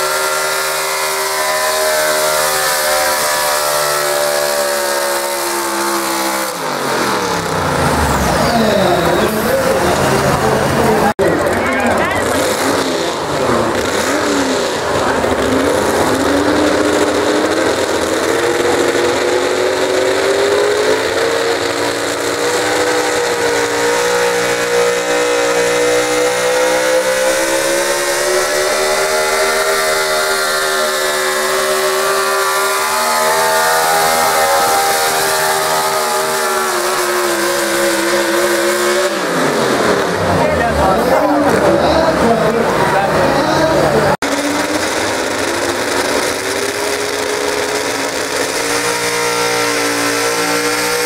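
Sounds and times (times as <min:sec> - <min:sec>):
truck engine at full throttle: 0:00.0 - 0:51.0.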